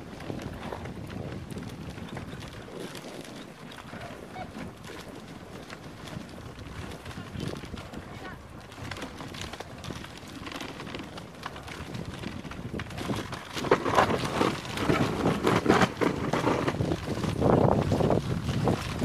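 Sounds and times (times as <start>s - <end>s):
dog sled moving over snow: 0.0s - 19.0s
wind buffeting microphone: 0.0s - 19.0s.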